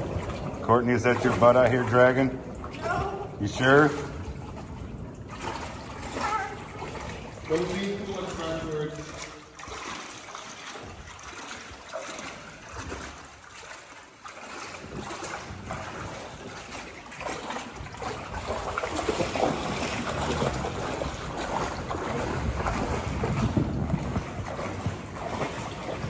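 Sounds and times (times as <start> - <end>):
river water trickling and splashing: 0.0 - 26.0.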